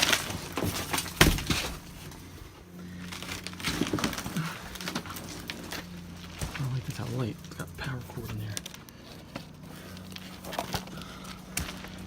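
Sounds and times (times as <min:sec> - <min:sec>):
styrofoam crackling and cracking: 0:00.0 - 0:12.0.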